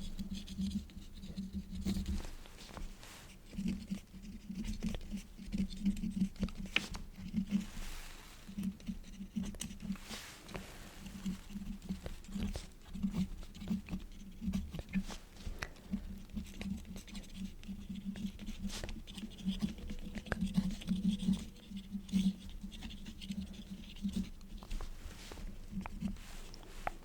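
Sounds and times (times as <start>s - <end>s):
quill scratching on paper: 0.0s - 10.3s, 10.9s - 26.3s.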